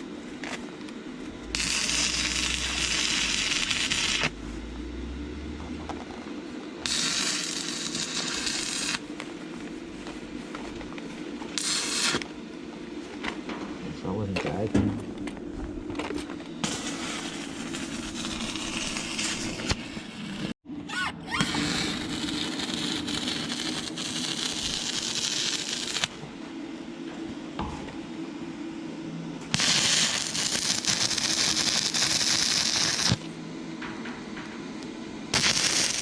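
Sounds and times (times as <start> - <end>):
welding arc crackling sizzle: 0.0 - 20.6, 21.3 - 26.4, 29.4 - 36.0.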